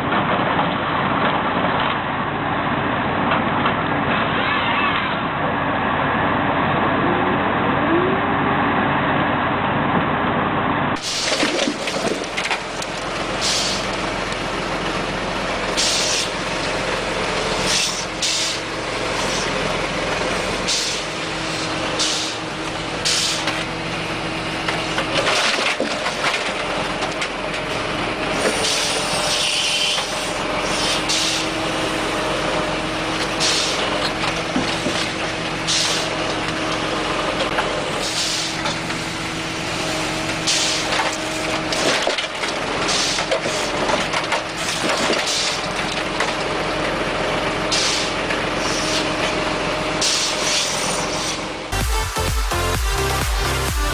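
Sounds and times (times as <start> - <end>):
heavy machinery running: 0.0 - 53.9.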